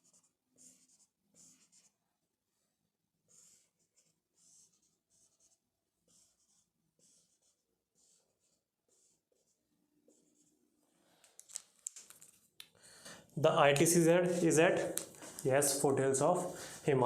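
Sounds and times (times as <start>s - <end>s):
marker drawing on whiteboard: 0.0s - 12.2s, 13.2s - 17.0s.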